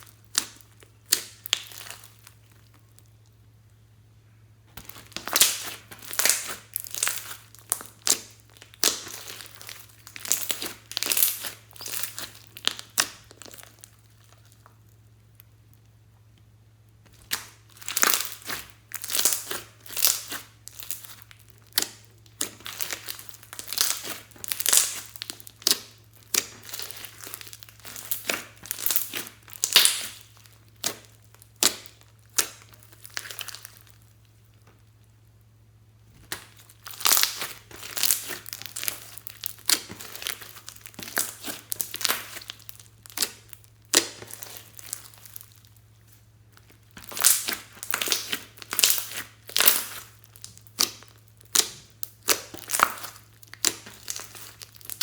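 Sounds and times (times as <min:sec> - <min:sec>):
slime crackling and popping: 0:00.0 - 0:03.4, 0:04.8 - 0:15.9, 0:16.9 - 0:35.2, 0:36.0 - 0:55.0.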